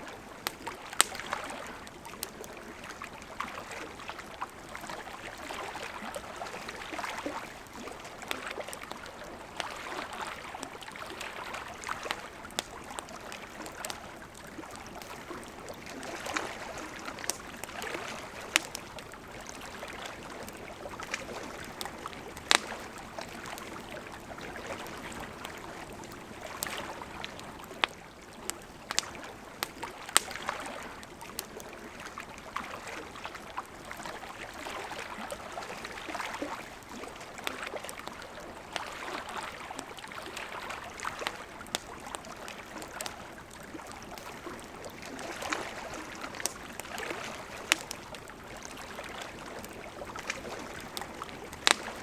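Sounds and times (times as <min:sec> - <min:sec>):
river water flowing: 0:00.0 - 0:52.0
campfire crackling and popping: 0:00.1 - 0:52.0.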